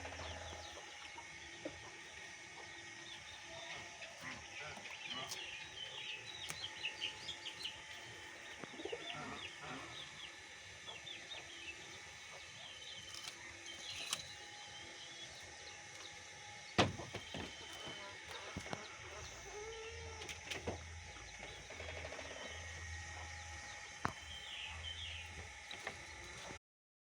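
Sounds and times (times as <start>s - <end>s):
small birds chirping: 0.0s - 26.6s.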